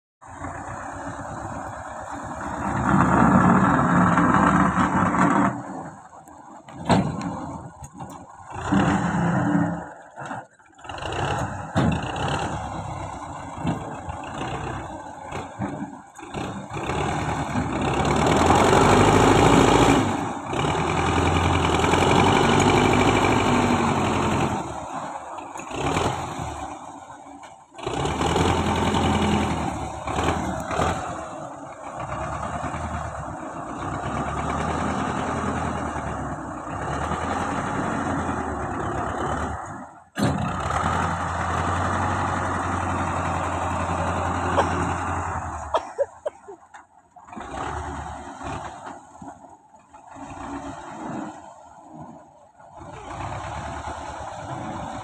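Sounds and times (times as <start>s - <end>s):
diesel tractor engine revving: 0.2s - 55.0s.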